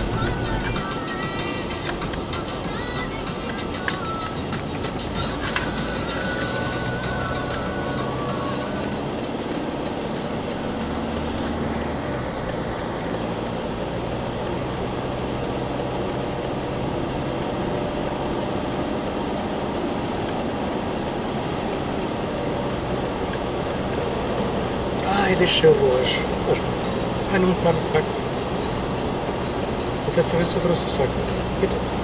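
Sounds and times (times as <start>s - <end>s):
car engine: 0.0s - 32.0s
tyres on asphalt: 0.0s - 32.0s.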